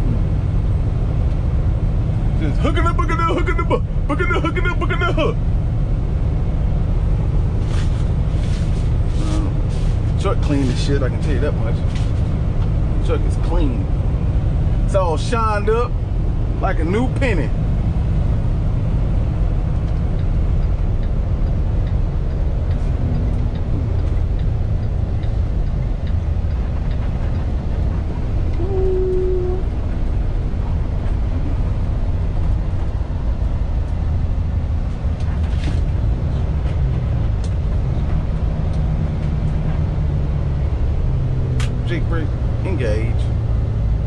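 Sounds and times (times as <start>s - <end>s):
truck engine and road noise: 0.0s - 44.0s.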